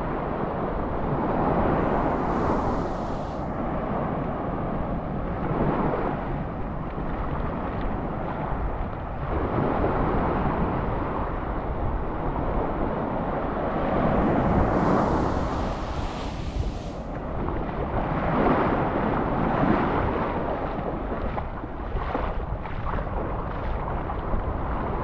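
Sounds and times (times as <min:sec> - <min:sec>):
sea surf: 0:00.0 - 0:25.0
wind rumbling on microphone: 0:00.0 - 0:25.0.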